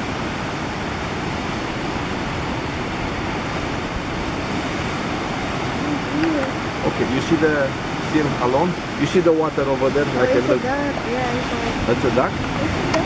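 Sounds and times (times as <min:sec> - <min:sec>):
surf rushing on shore: 0:00.0 - 0:13.0.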